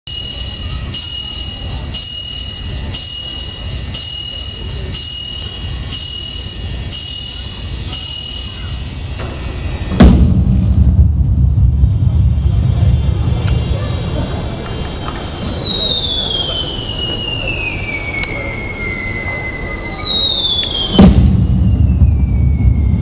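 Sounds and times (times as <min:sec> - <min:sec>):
high-pitched ringing tones: 0:00.1 - 0:10.0, 0:11.4 - 0:21.0
fireworks boom and rumble: 0:02.6 - 0:23.0.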